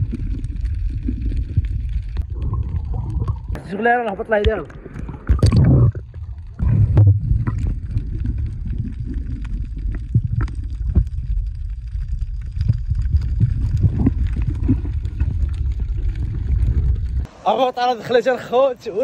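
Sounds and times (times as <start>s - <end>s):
muffled underwater water movement: 0.0s - 17.3s.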